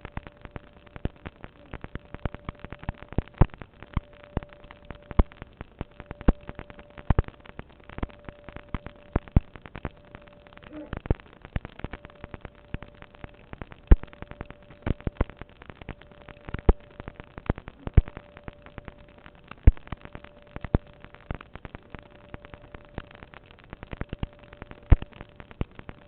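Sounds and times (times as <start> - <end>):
faint steady tone: 0.0 - 26.0
sharp pops and clicks: 0.0 - 26.0.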